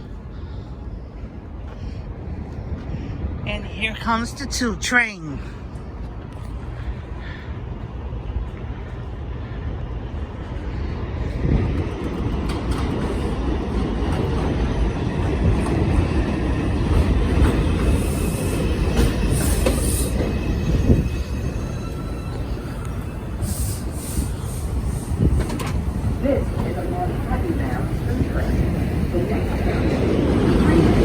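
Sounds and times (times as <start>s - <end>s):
train wheels rumbling on rails: 5.4s - 31.0s.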